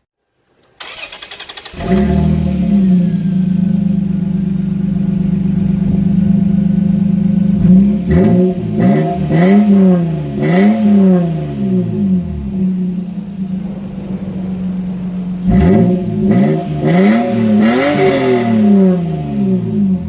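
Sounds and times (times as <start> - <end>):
car engine idling and revving: 0.8 - 20.0.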